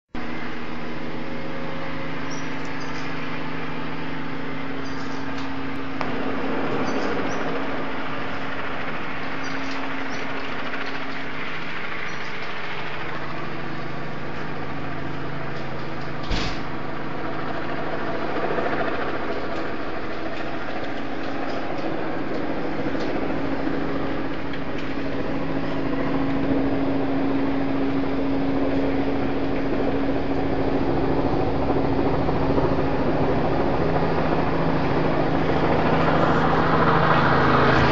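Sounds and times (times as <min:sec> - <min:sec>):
helicopter flying overhead: 0:00.2 - 0:37.9.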